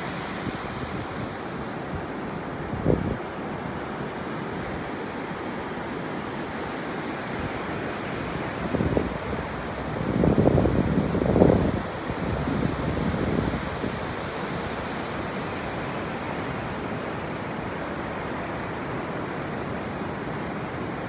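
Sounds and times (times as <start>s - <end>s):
ocean surf washing onto beach: 0.0s - 21.0s.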